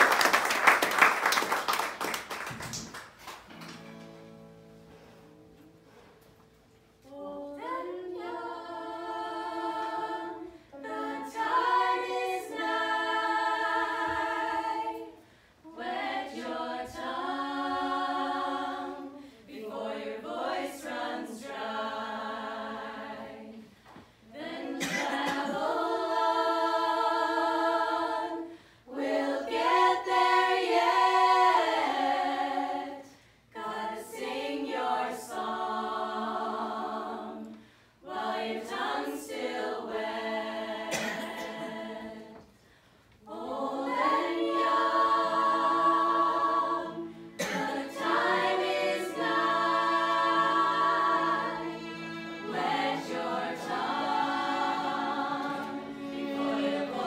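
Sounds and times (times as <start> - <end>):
group singing unaccompanied: 7.1 - 42.6, 43.2 - 57.0.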